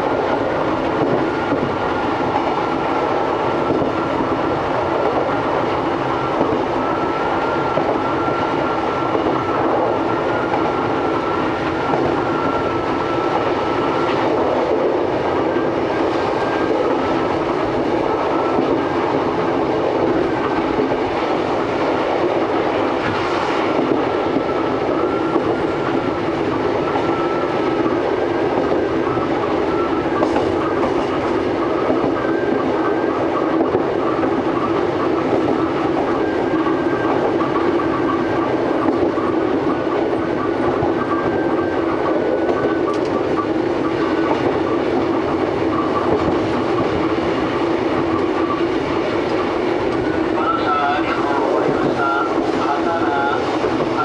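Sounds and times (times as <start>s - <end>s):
train wheels clattering on track: 0.0s - 54.0s.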